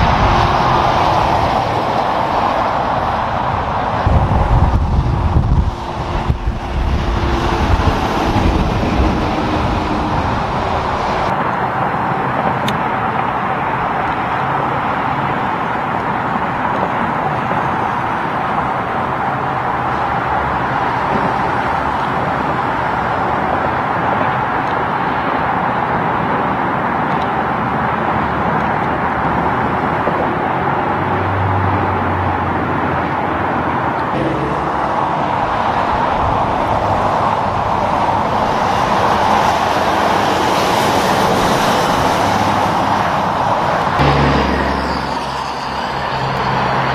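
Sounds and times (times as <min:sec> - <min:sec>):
highway traffic passing: 0:00.0 - 0:46.9.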